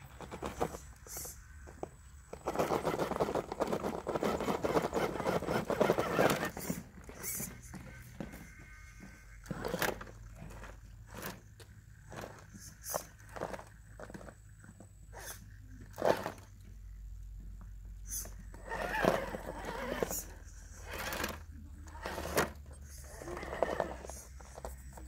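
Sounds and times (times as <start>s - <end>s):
rc crawler scraping over rock: 0.0s - 16.8s, 18.0s - 25.0s.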